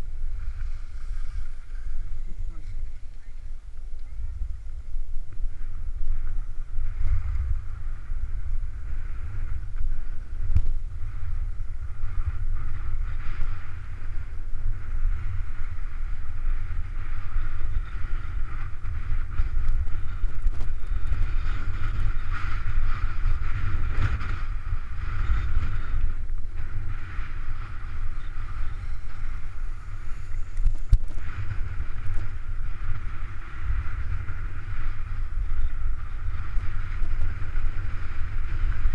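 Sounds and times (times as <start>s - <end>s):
wind buffeting microphone: 0.0s - 38.9s
skis sliding over packed snow: 0.1s - 38.9s.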